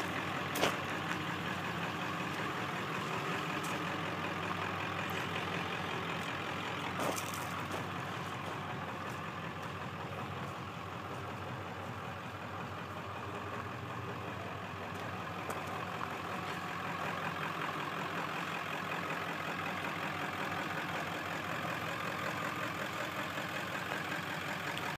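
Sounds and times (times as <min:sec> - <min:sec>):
truck engine idling: 0:00.0 - 0:24.9.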